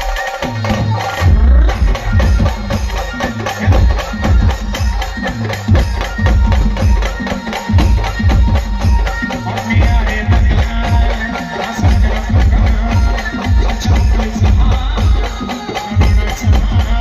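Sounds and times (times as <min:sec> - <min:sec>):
heavy steady drum beat: 0:00.0 - 0:17.0.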